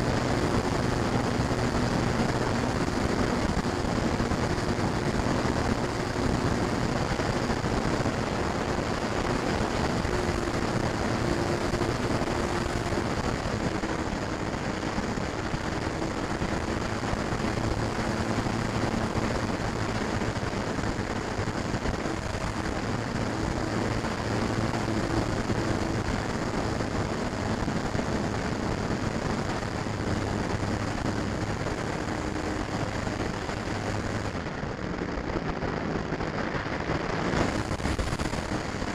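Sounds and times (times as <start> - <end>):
model plane motor and propeller: 0.0 - 35.6, 36.9 - 38.9
wind rush: 0.0 - 38.9.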